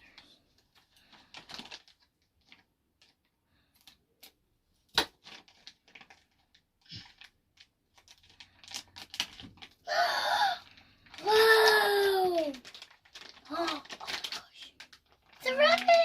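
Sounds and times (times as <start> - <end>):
plastic packaging crackling: 0.0 - 16.0.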